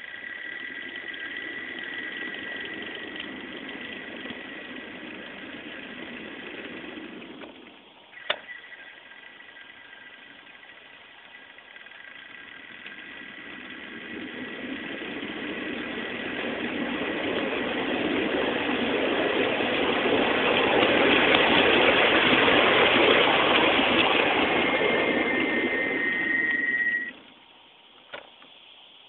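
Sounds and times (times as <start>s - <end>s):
miniature locomotive running on track: 0.0s - 27.4s
high motor whine: 0.0s - 29.0s.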